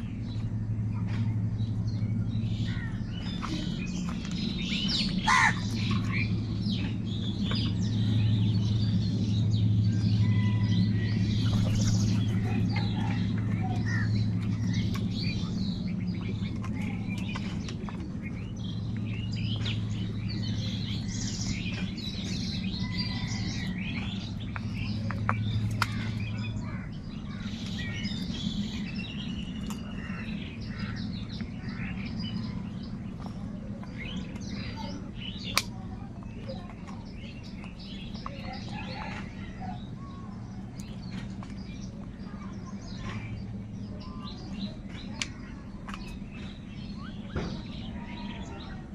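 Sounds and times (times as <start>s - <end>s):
small birds chirping: 0.0s - 48.9s
steady low hum: 0.0s - 48.9s.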